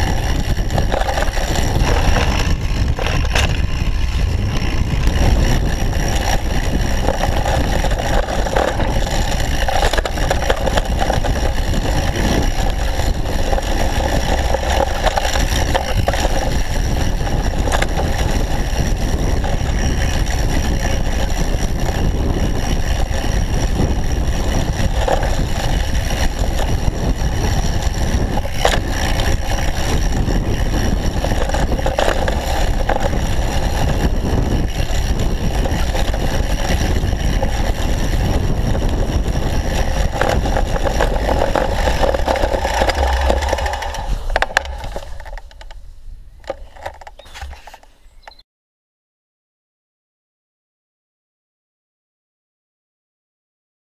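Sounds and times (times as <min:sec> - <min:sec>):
bike knocks and rattles: 0:00.0 - 0:45.8, 0:46.4 - 0:48.4
tyres rolling on dirt: 0:00.0 - 0:48.3
wind rumble on microphone: 0:00.0 - 0:48.4.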